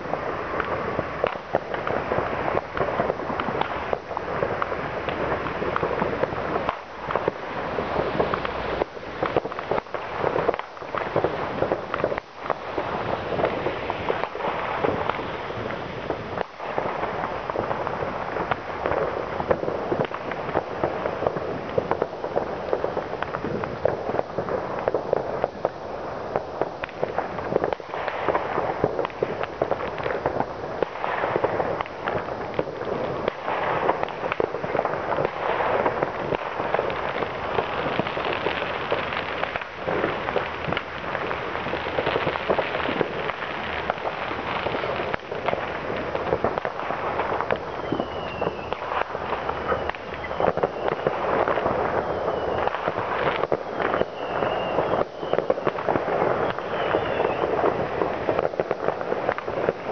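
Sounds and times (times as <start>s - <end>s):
fireworks and firecrackers crackling: 0.0s - 59.9s.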